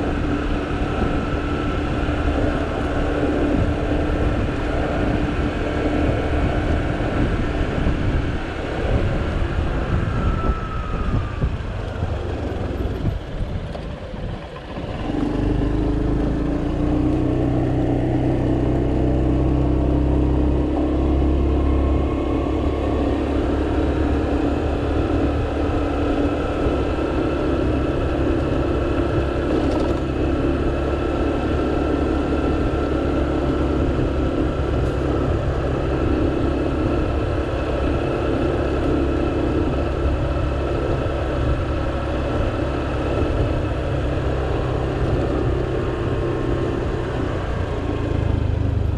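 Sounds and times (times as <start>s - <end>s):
motor scooter engine: 0.0s - 48.9s
wind rushing over microphone: 0.0s - 48.9s.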